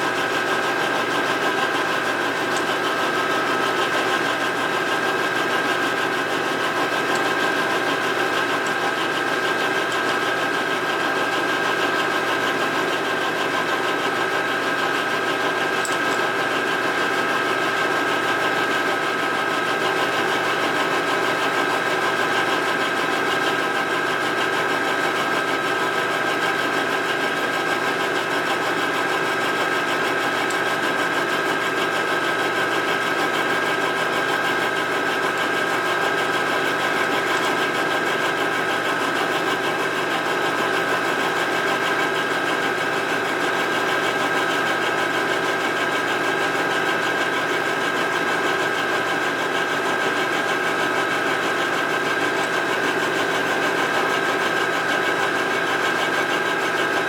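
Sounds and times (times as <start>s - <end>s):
milling machine cutting metal: 0.0s - 21.2s, 24.5s - 57.0s.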